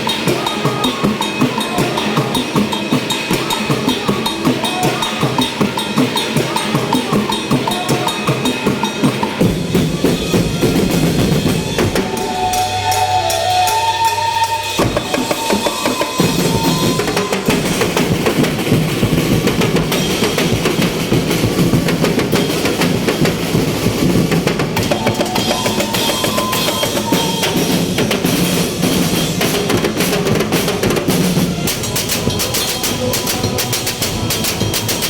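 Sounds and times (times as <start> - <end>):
drums playing fast beat: 0.0 - 35.0.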